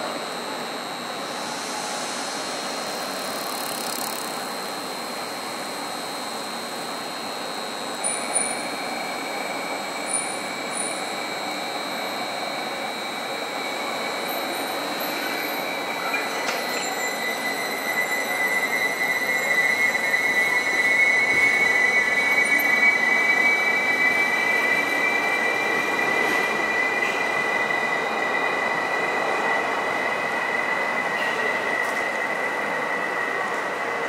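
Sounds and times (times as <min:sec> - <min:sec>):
electric train hum: 0:00.0 - 0:34.0.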